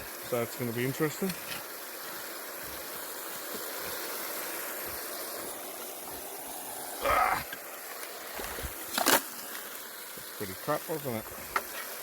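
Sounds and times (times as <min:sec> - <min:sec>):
water spraying and rushing: 0:00.0 - 0:12.0.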